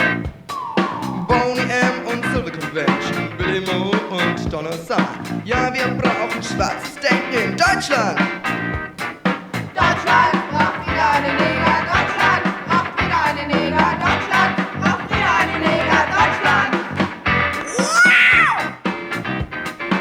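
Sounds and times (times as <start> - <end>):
bass guitar: 0.0 - 20.0
drums beating: 0.0 - 20.0
electric guitar: 0.0 - 20.0.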